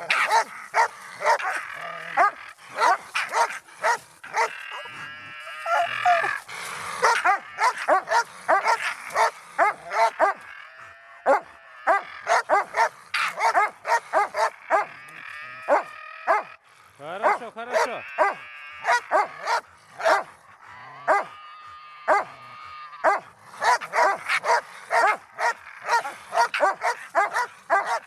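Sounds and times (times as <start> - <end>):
dog barking: 0.0 - 4.9, 5.6 - 6.4, 7.0 - 10.5, 11.2 - 15.0, 15.7 - 20.3, 21.0 - 21.3, 22.1 - 22.4, 23.0 - 28.0.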